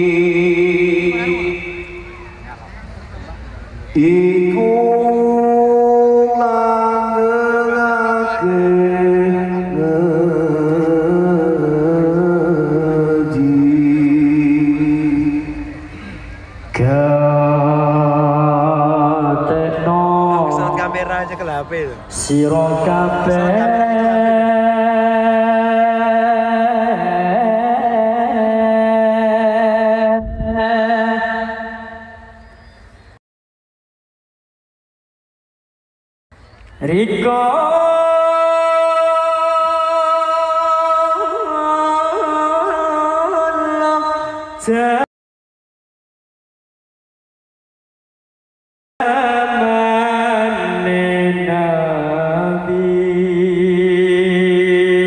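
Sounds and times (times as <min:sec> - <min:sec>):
man singing sustained notes: 0:00.0 - 0:02.4, 0:03.9 - 0:32.5, 0:36.8 - 0:45.1, 0:49.0 - 0:55.0.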